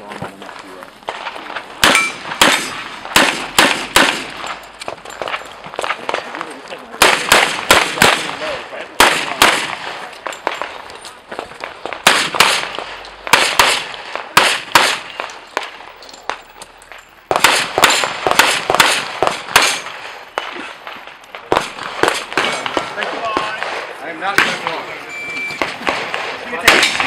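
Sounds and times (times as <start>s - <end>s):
pistol shots with echo: 1.8s - 4.6s, 5.2s - 10.9s, 11.6s - 16.4s, 17.3s - 24.9s, 25.6s - 27.0s.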